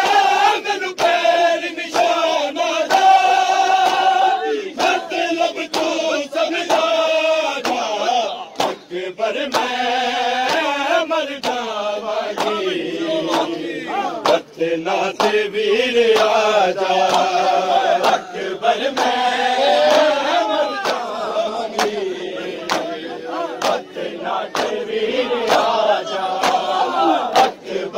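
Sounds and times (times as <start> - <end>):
men chanting in unison: 0.0 - 27.9.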